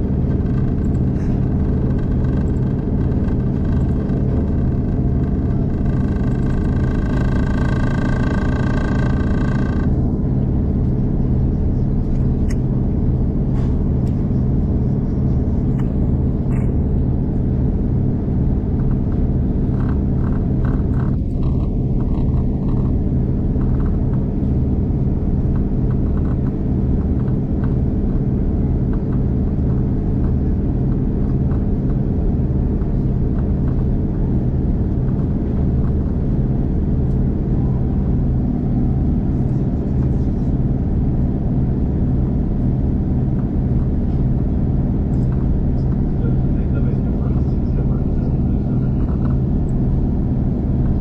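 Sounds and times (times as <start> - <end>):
low diesel engine hum: 0.0 - 51.0
train rumbling: 0.0 - 51.0.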